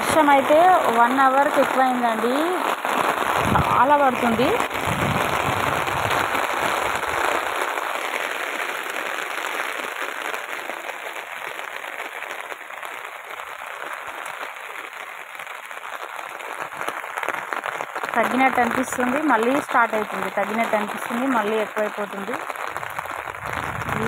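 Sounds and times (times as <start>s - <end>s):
heavy rain on concrete: 0.0s - 24.0s
rain pattering on umbrella: 0.0s - 24.0s.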